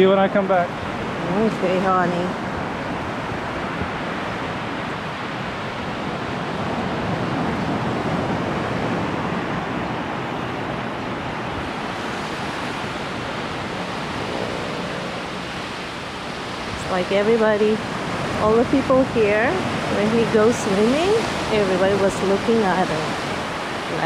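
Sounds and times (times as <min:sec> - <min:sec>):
ocean waves washing: 0:00.0 - 0:24.0.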